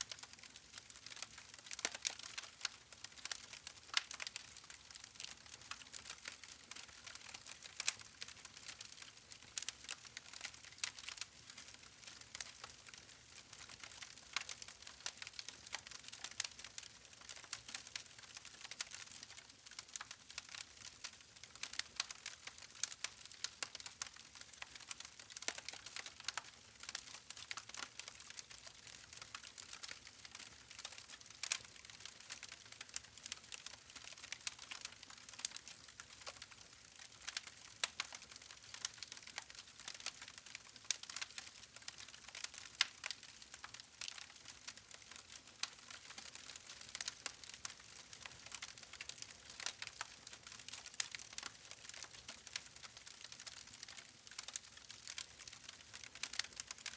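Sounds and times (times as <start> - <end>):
campfire crackling and popping: 0.1 - 56.9.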